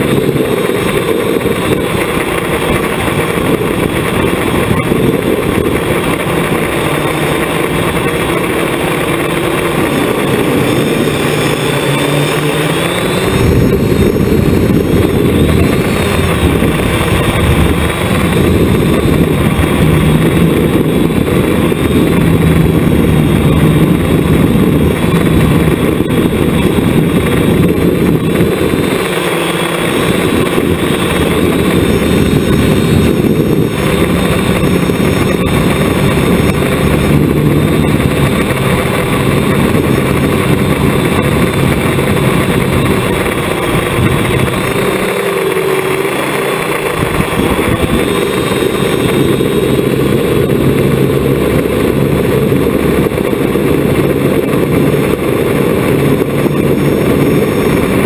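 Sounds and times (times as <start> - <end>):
drone motors and propellers whirring: 0.0 - 58.0
steady rushing noise: 0.0 - 58.0.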